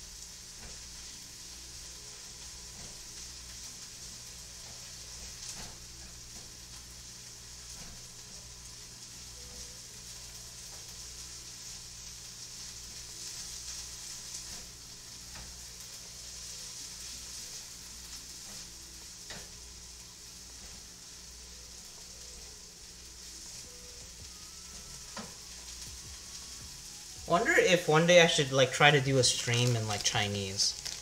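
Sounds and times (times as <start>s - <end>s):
corn frying sizzle: 0.0s - 31.0s.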